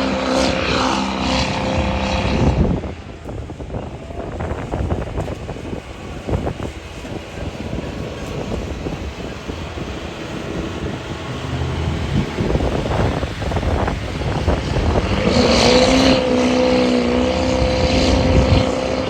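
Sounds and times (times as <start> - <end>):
truck engine running hard: 0.0 - 19.0
wind noise on microphone: 0.0 - 19.0.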